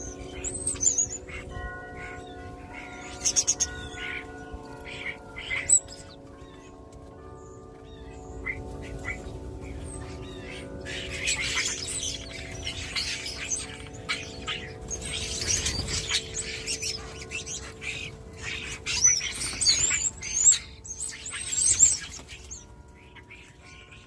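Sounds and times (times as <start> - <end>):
starlings chattering and whistling: 0.0 - 24.0
wind chimes ringing: 0.0 - 24.0.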